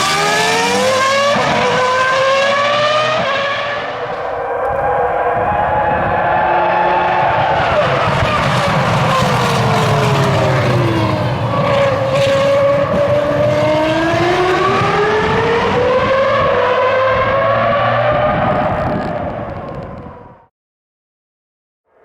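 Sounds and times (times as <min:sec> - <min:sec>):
racing car engine at high revs: 0:00.0 - 0:20.2.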